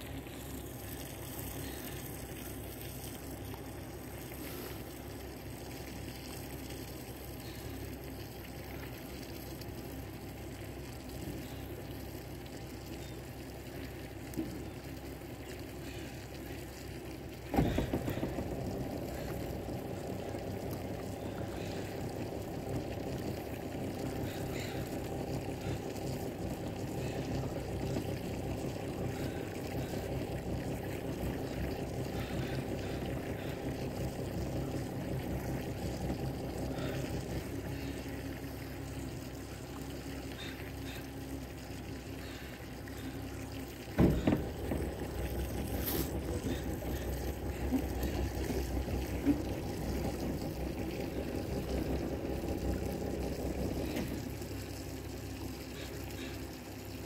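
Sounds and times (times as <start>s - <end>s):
boat motor idling: 0.0s - 57.0s
water sloshing: 0.0s - 57.0s.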